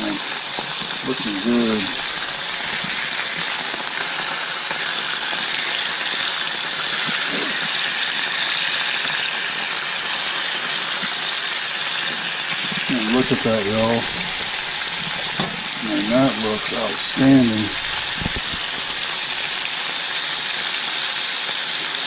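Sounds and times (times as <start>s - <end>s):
fish sizzling in a frying pan: 0.0s - 22.0s.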